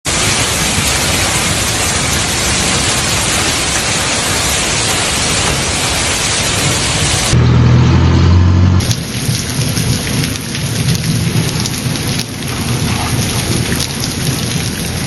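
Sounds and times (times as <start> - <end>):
heavy rain and hail: 0.0 - 7.4, 8.8 - 15.0.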